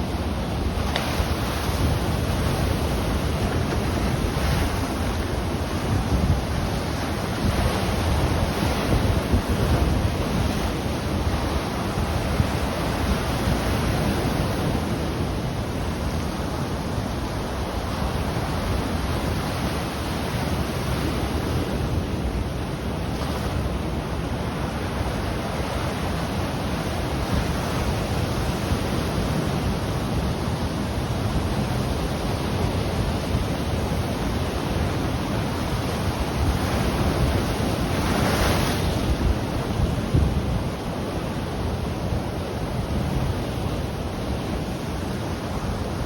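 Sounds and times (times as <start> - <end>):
ocean waves breaking: 0.0 - 46.0
wind on microphone: 0.0 - 46.0.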